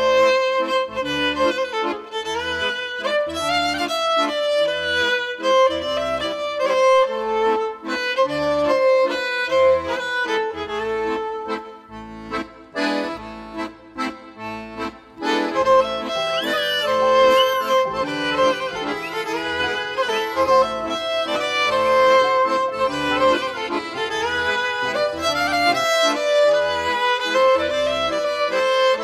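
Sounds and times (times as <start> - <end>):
instrumental music with pulsing bass: 0.0 - 29.0.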